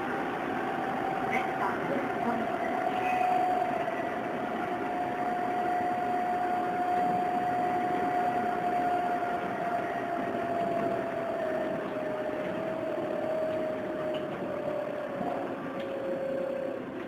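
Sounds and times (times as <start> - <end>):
electric motor whine: 0.0 - 16.9
train car rumbling: 0.0 - 17.0.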